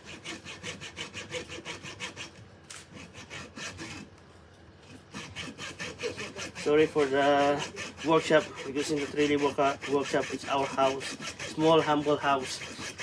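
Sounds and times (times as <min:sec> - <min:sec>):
hand saw cutting bamboo: 0:00.0 - 0:04.1, 0:04.9 - 0:13.0.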